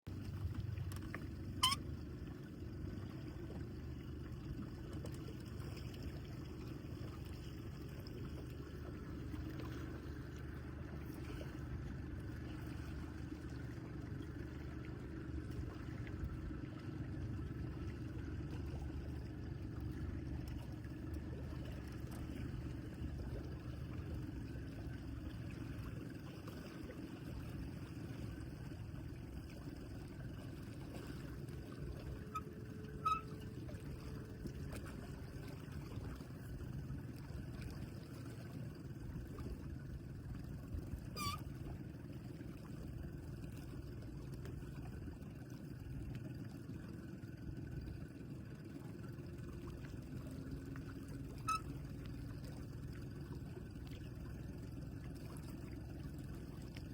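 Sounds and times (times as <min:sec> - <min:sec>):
boat engines running: 0:00.1 - 0:56.9
water splashing and gurgling: 0:00.1 - 0:56.9.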